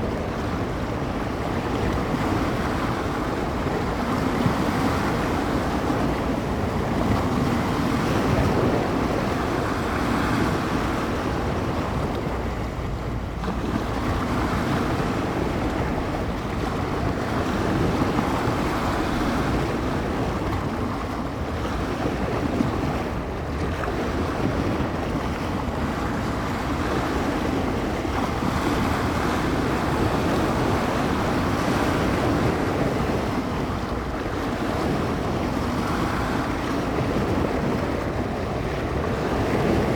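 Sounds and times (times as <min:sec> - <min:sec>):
waves washing and breaking: 0:00.0 - 0:39.9
wind buffeting microphone: 0:00.0 - 0:39.9.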